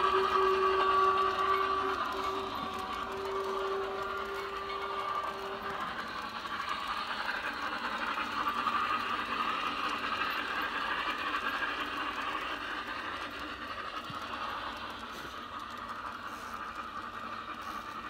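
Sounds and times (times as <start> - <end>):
model train wheels rattling: 0.0 - 18.0.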